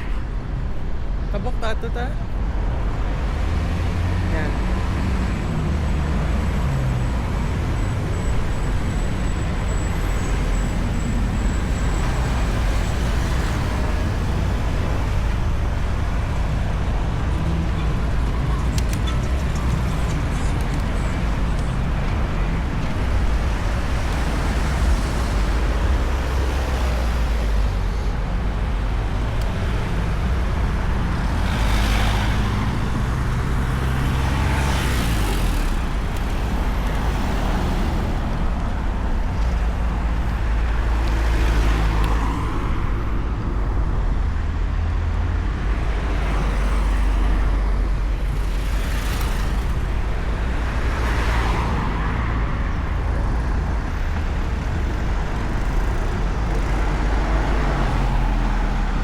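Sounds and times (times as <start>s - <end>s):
traffic rumble: 0.0s - 59.0s
vehicles passing: 0.0s - 59.0s.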